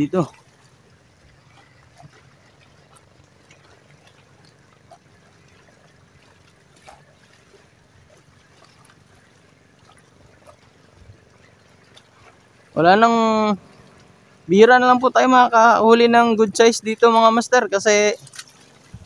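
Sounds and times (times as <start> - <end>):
sea water lapping: 0.0 - 19.0.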